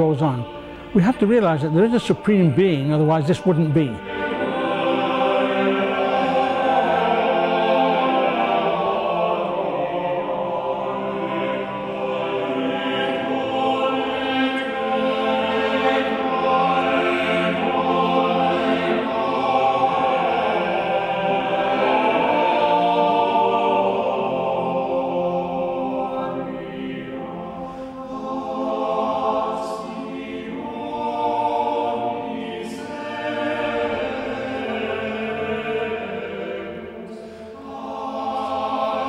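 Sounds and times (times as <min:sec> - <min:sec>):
choir singing long-held chords: 0:00.0 - 0:39.0.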